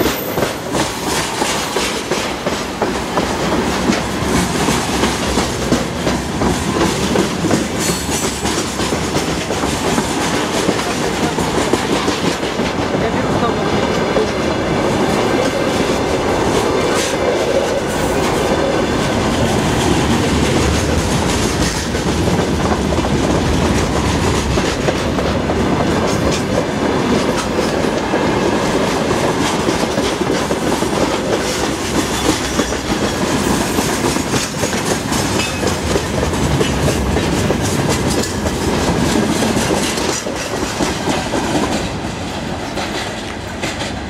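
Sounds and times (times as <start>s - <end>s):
freight train wheels clattering: 0.0s - 44.0s
heavy train rumble: 0.0s - 44.0s.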